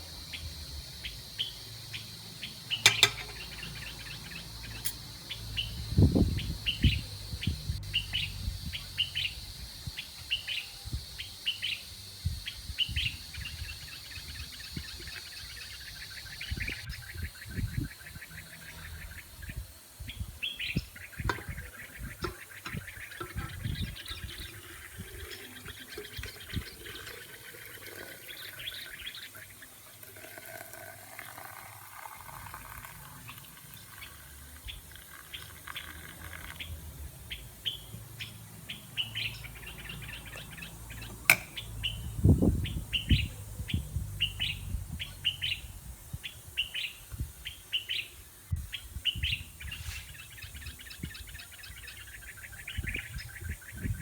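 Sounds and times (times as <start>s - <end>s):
birds chirping and singing: 0.4s - 30.0s, 31.1s - 54.0s.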